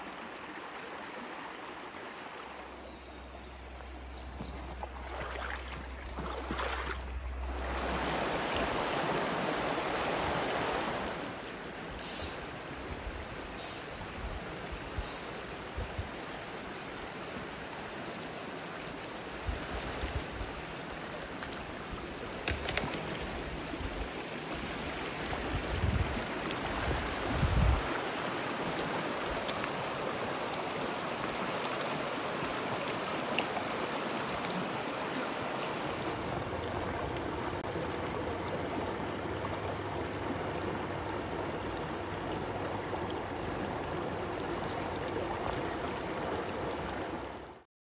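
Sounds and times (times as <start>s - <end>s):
stream running over stones: 0.0s - 47.6s.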